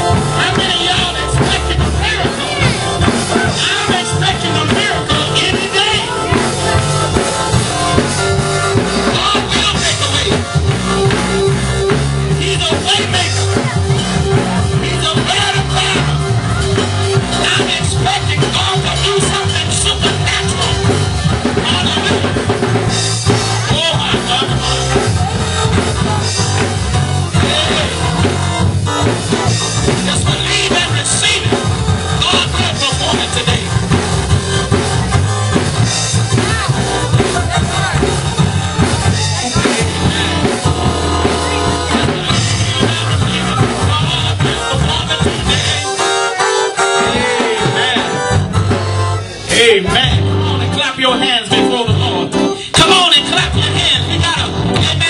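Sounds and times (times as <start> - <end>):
live band playing upbeat groove: 0.0 - 55.0.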